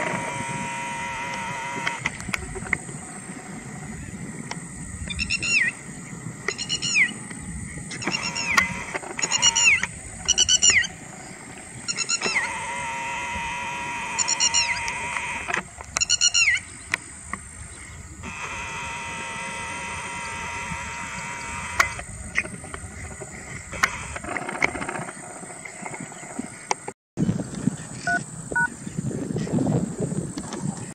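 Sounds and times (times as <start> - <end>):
terns calling: 0.0 - 29.1.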